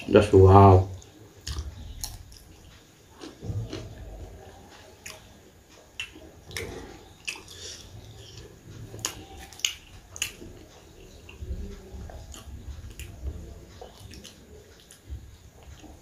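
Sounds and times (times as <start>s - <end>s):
person chewing with mouth smacks: 1.4s - 16.0s.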